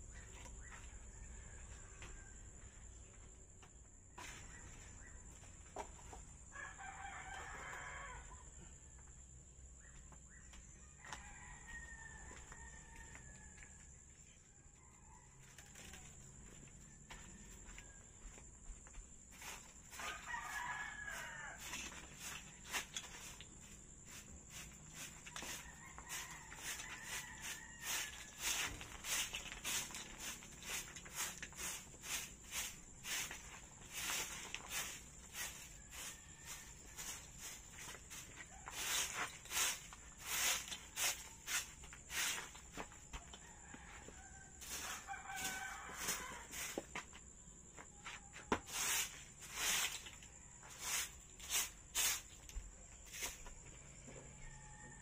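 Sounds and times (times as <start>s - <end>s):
broom sweeping dirt floor: 0.1s - 8.3s, 15.4s - 54.7s.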